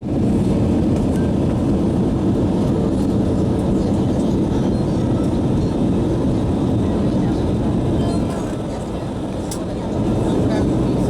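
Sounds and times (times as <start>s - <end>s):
airliner engine rumble: 0.0s - 11.0s.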